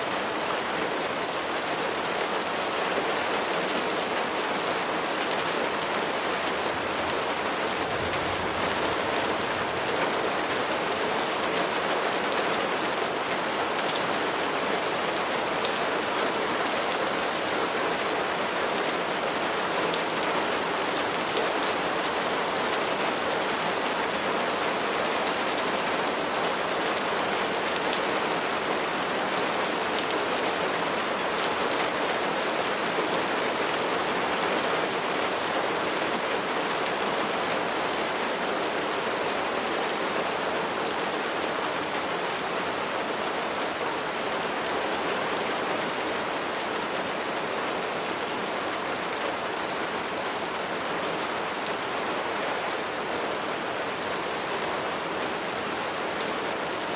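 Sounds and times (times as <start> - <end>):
rain pattering on surfaces: 0.1 - 56.9.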